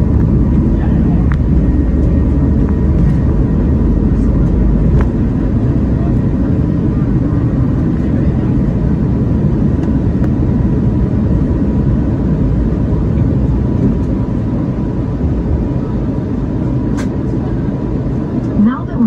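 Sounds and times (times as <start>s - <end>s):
airflow past fuselage: 0.0s - 18.7s
jet engines rumbling: 0.0s - 19.0s.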